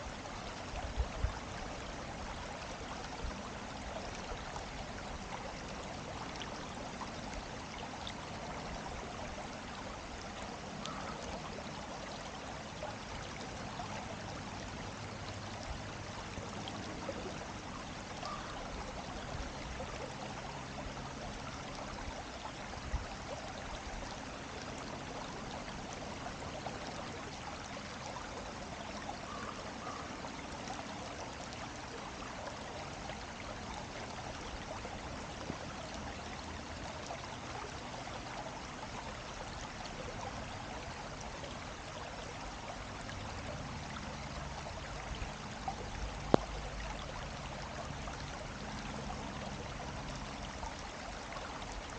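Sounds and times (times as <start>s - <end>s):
stream water flowing: 0.0s - 51.9s.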